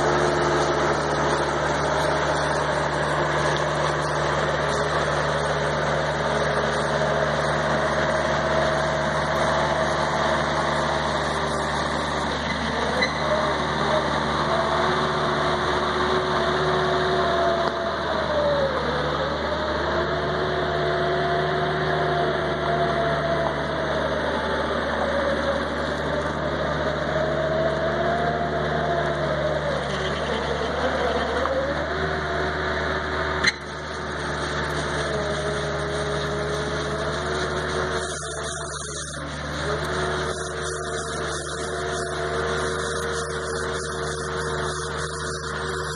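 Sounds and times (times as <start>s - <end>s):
diesel engine running: 0.0s - 45.9s
whining tone: 0.0s - 45.9s.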